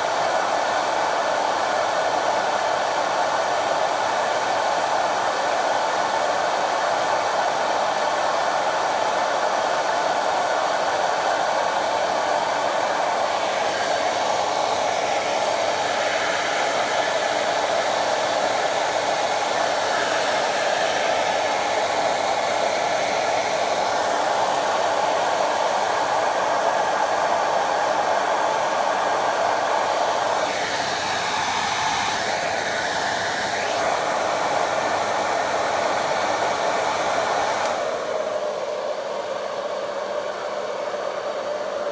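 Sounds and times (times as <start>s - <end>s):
hair dryer blowing: 0.0s - 41.9s.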